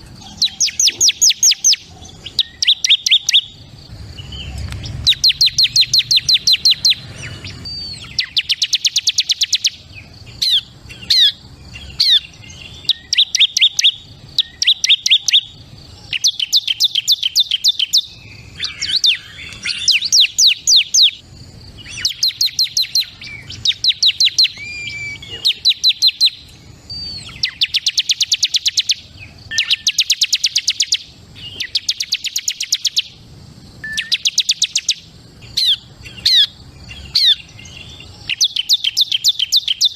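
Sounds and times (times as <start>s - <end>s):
bird chirps and calls: 0.0s - 33.2s, 33.8s - 39.9s
bird singing fast trills: 0.0s - 39.9s.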